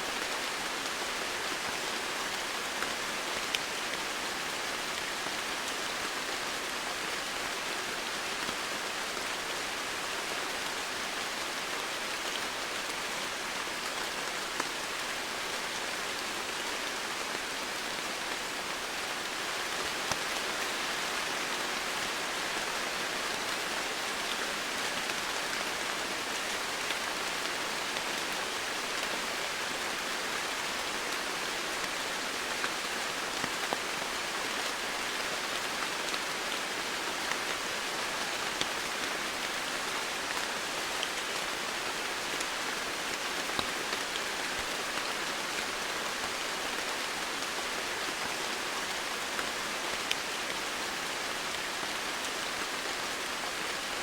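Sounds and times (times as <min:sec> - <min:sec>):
rain on leaves and ground: 0:00.0 - 0:54.0.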